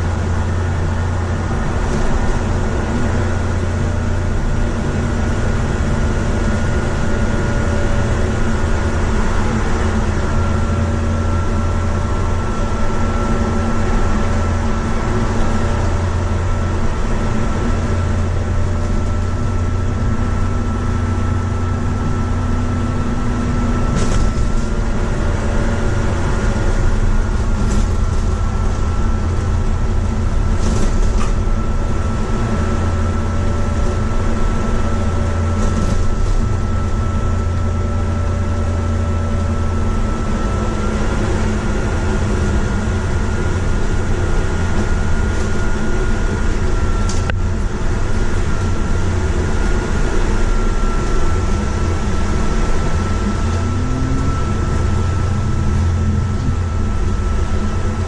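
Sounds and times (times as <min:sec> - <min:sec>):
bus engine hum: 0:00.0 - 0:58.0
road noise: 0:00.0 - 0:58.0
thin steady whine: 0:00.0 - 0:58.0.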